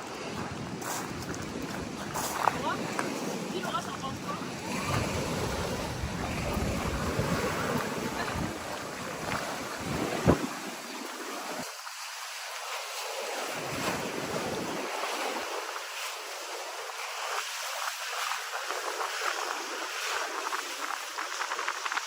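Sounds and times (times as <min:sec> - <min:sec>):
wind gusts on microphone: 0:00.0 - 0:11.7, 0:13.4 - 0:15.8, 0:17.2 - 0:22.0.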